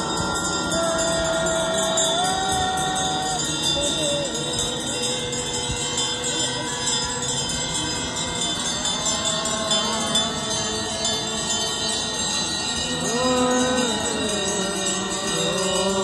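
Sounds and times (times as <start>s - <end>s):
hand bells jingling: 0.0s - 16.0s
long held notes of slow tune: 0.0s - 16.0s.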